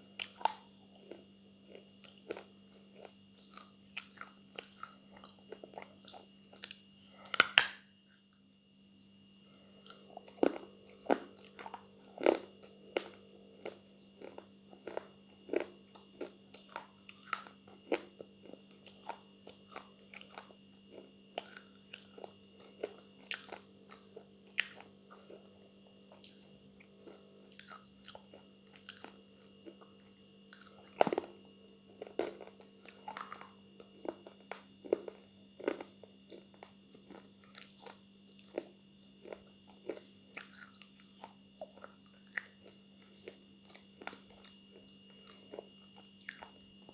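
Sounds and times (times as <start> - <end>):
electrical hum: 0.0 - 46.9.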